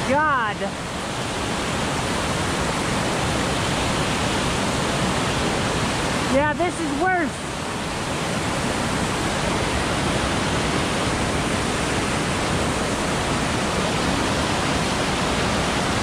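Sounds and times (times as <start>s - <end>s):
creek rushing over rocks: 0.0s - 16.0s.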